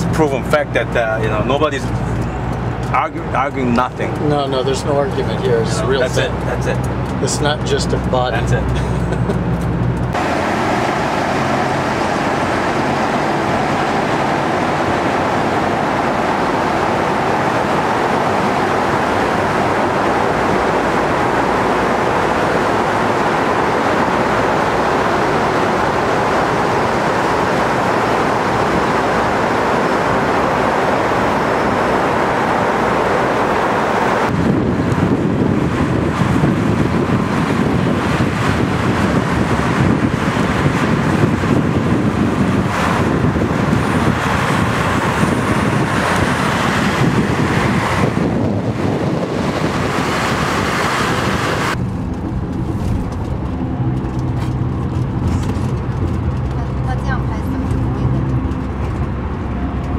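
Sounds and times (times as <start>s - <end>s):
road and wind noise in vehicle: 0.0s - 59.9s.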